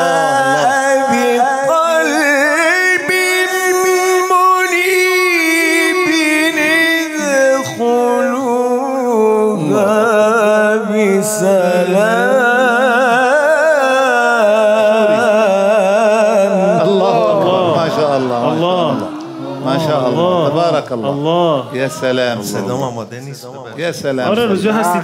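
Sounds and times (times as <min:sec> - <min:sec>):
man reciting melodically: 0:00.0 - 0:25.0.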